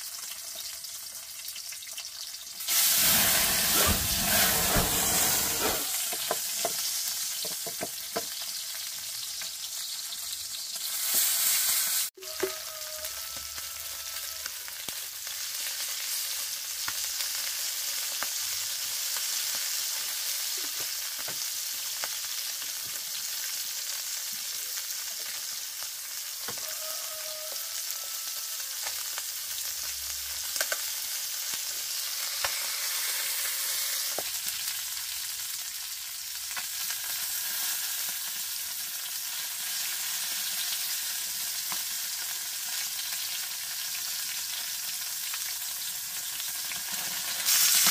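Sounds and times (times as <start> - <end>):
fish sizzling in oil: 0.0 - 47.9.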